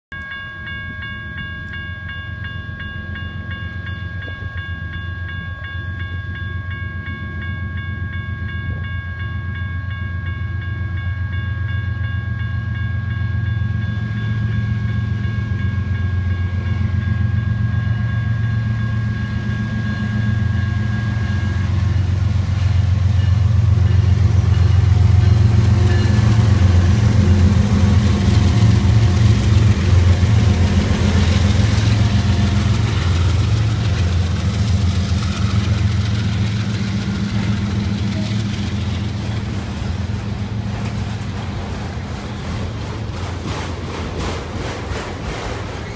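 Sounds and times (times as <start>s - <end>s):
crossing bell ringing: 0.1s - 42.5s
diesel locomotive engine rumble: 0.1s - 45.9s
train rail noise: 0.1s - 45.9s.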